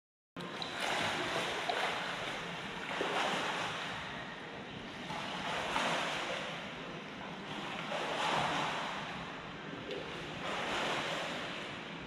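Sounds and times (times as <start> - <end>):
pool water sloshing and lapping: 0.4 - 12.0.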